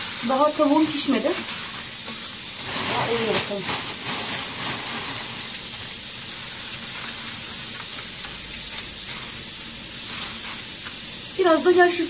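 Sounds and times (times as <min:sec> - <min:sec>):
faint crackles of dry pastry: 0:00.0 - 0:12.0
plastic bag crinkling: 0:00.0 - 0:12.0
pressure cooker venting steam: 0:00.0 - 0:12.0.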